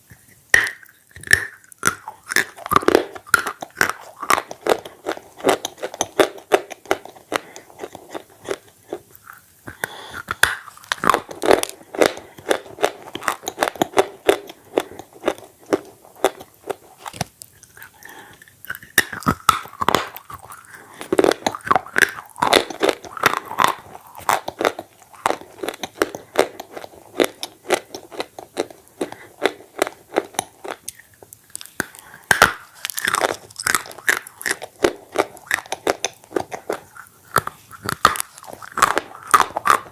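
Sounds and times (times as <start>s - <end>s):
biting and crunching chews: 0.0s - 39.9s.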